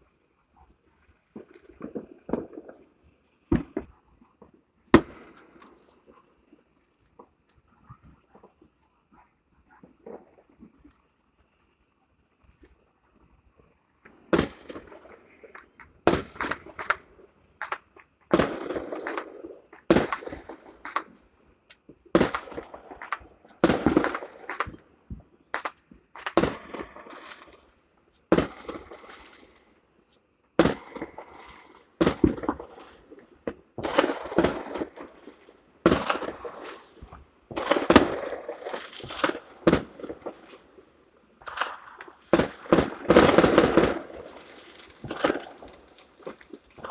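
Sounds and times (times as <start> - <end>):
fireworks banging and crackling: 1.3 - 7.3, 14.0 - 46.9.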